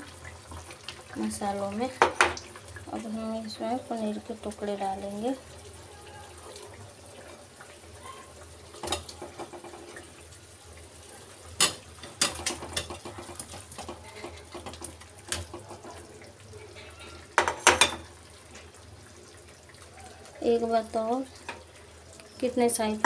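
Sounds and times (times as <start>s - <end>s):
pot simmering: 0.0s - 23.0s.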